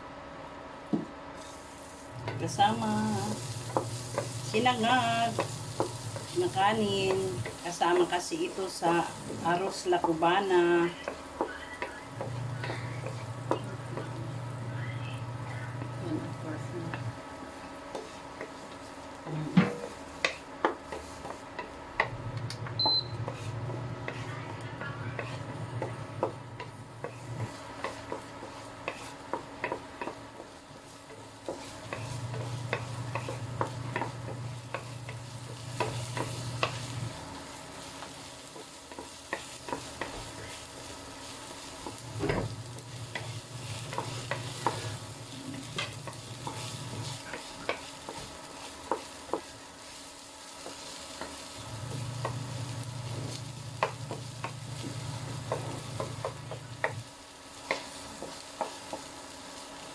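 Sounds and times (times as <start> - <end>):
rice sizzling in a pan: 0.8 - 59.9
spatula scraping and tapping pan: 2.2 - 14.2, 17.9 - 37.2, 37.8 - 50.0, 50.6 - 59.2.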